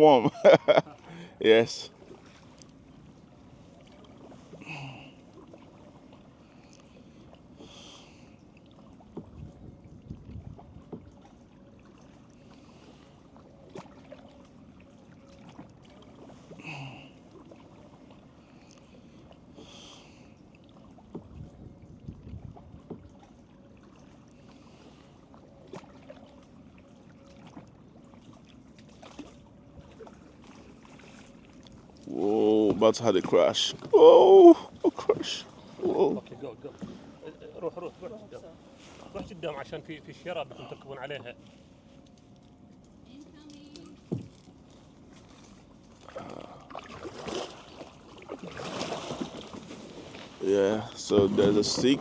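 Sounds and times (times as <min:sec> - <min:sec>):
paddle splashing in water: 0:01.9 - 0:38.0, 0:43.9 - 0:52.0.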